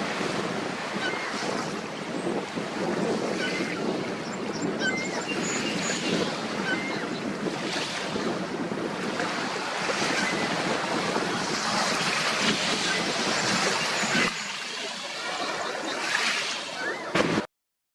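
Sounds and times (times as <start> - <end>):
wind buffeting microphone: 0.0 - 14.5
lake water washing: 0.0 - 17.5.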